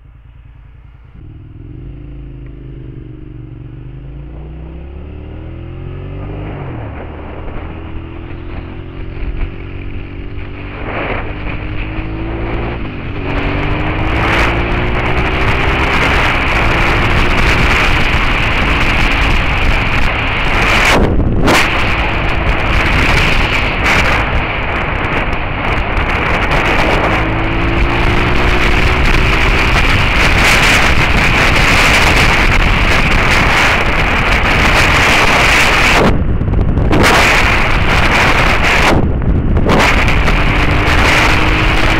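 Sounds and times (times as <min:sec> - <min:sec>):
motorcycle engine accelerating: 0:00.0 - 0:41.9
wind noise on microphone: 0:01.0 - 0:41.9.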